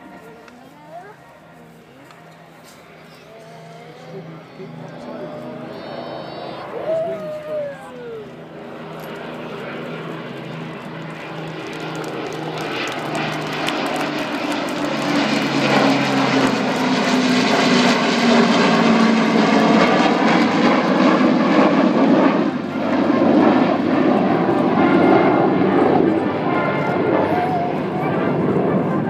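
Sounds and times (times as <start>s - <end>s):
propeller aircraft engines droning: 0.0s - 29.0s
jet roar: 1.5s - 29.0s.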